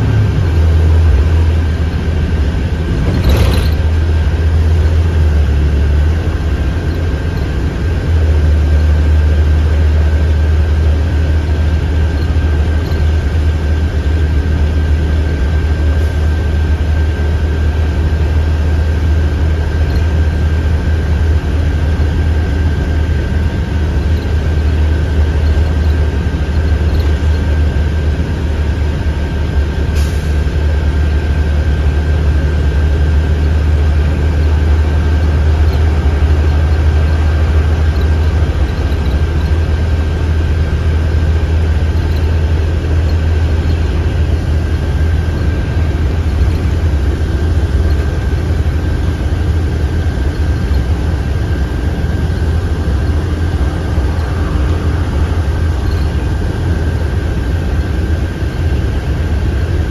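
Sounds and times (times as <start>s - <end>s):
bus engine and road drone: 0.0s - 59.9s.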